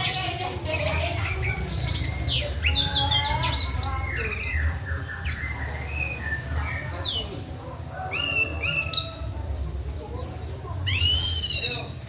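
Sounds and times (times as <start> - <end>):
thrush singing whistled song: 0.0 - 9.4, 10.8 - 12.0.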